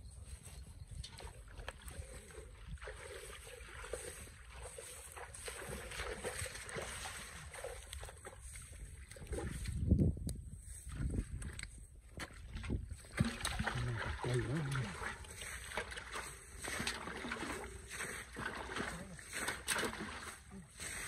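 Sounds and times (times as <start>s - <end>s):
footsteps sloshing through muddy water: 0.0s - 21.0s.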